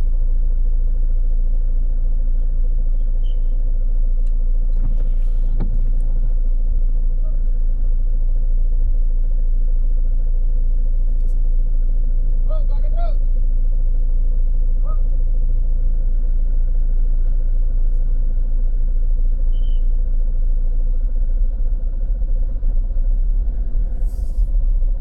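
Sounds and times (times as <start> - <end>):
motor vehicle rumble: 0.0 - 25.0.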